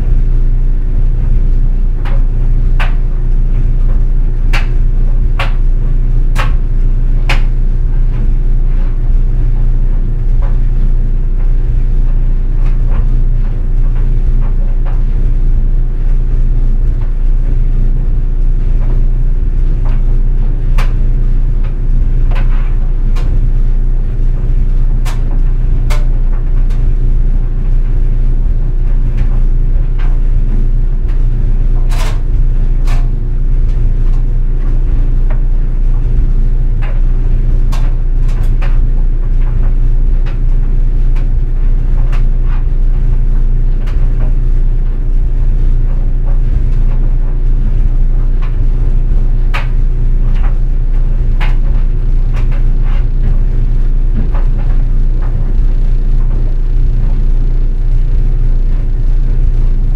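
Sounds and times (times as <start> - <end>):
clothes dryer humming: 0.0 - 59.9.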